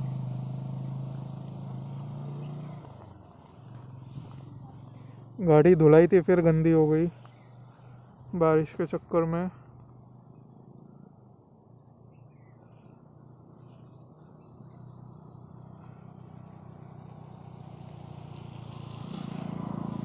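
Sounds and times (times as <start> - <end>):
insect chirping: 0.0 - 19.2
motorcycle engine running: 0.0 - 20.0.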